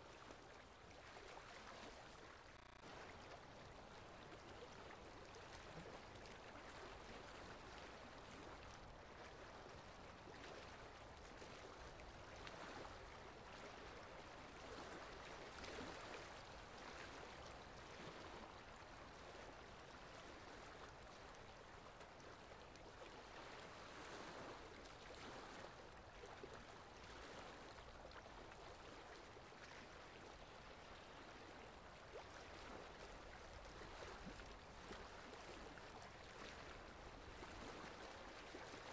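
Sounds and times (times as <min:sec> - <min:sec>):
faint steady rain: 0:00.0 - 0:38.9.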